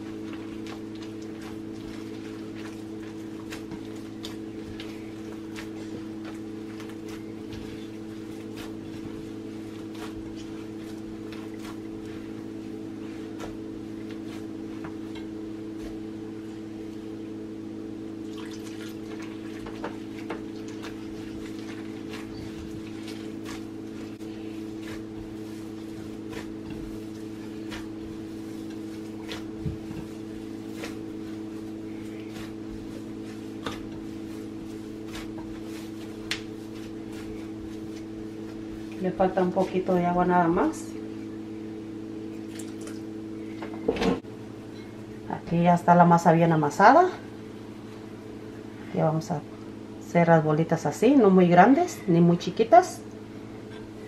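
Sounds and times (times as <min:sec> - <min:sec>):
hands kneading wet dough: 0:00.0 - 0:43.8
steady low hum: 0:00.0 - 0:54.0.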